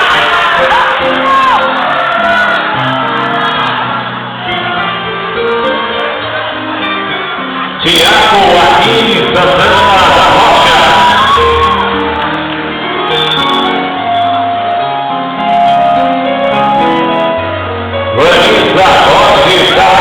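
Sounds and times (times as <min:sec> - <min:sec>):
crowd cheering and shouting: 0:00.0 - 0:20.0
slow ceremony music: 0:00.0 - 0:20.0.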